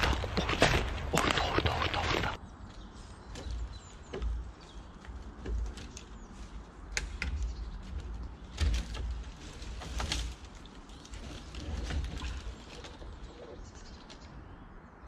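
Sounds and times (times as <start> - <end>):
twigs snapping and rustling: 0.0 - 14.4
low wind rumble: 0.0 - 15.0.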